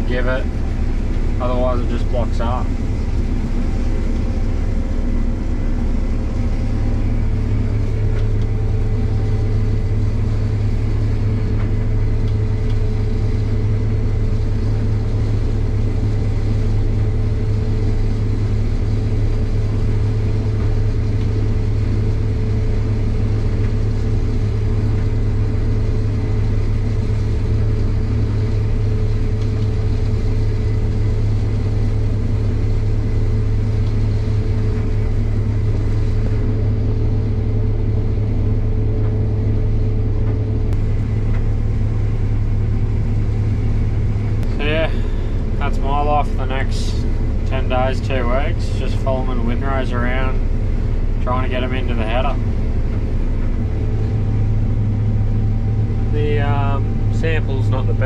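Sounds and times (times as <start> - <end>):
combine harvester engine drone: 0.0 - 58.0
higher hum: 0.0 - 58.0.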